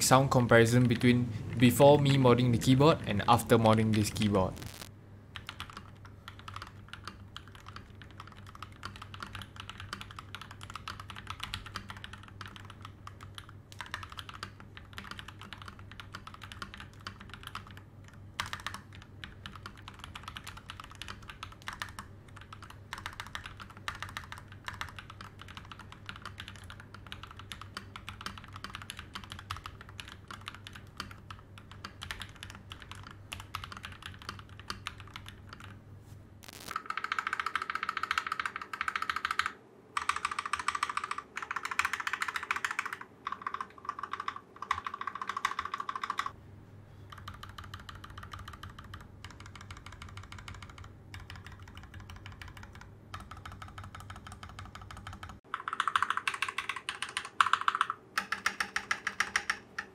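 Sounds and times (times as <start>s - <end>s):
mechanical keyboard typing: 0.1s - 35.8s, 36.4s - 46.4s, 47.1s - 59.9s.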